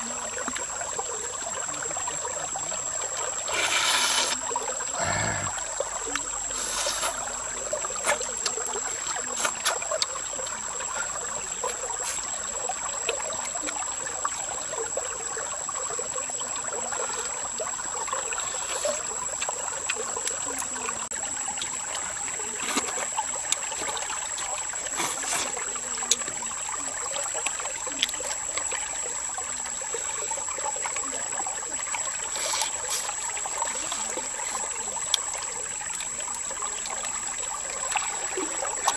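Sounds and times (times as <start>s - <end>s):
stream trickling over stones: 0.0s - 38.9s.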